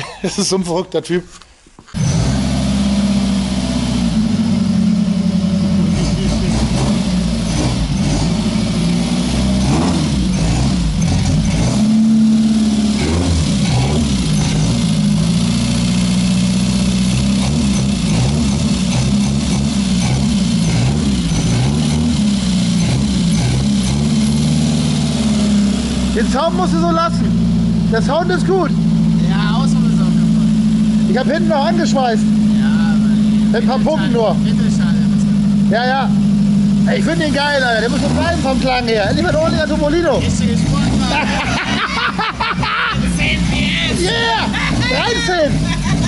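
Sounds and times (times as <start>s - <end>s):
car engine revving: 2.0s - 46.0s.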